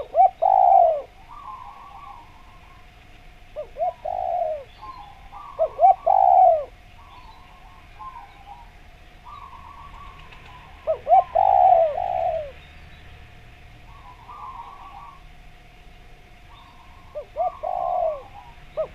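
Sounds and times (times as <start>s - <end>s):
dove cooing: 0.0s - 12.6s, 13.8s - 18.9s
soft bird calls: 0.0s - 18.9s.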